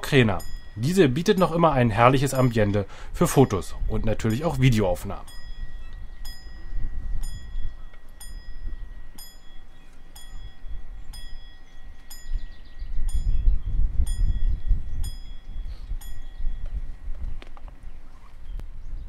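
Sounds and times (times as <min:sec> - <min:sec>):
level crossing warning bell: 0:00.0 - 0:17.3.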